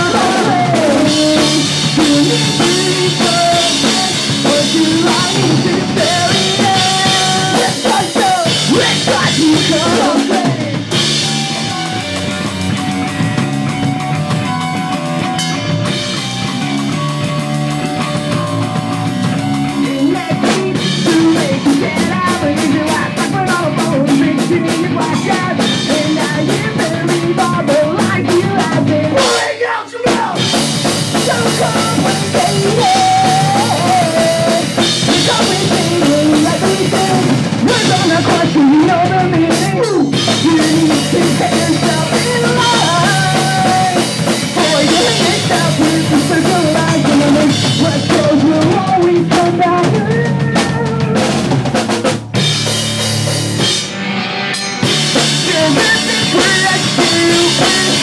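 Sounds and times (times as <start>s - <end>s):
person singing lead vocal: 0.0s - 12.6s, 19.3s - 52.0s, 54.8s - 58.0s
distorted electric guitars and bass: 0.0s - 29.4s, 30.1s - 58.0s
pounding drum kit: 0.0s - 58.0s.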